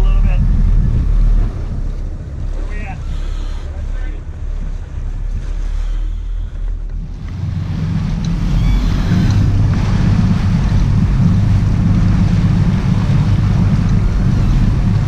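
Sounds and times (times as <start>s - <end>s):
boat engines rumbling: 0.0s - 15.0s
churning water: 0.0s - 15.0s
wind buffeting microphone: 0.0s - 15.0s.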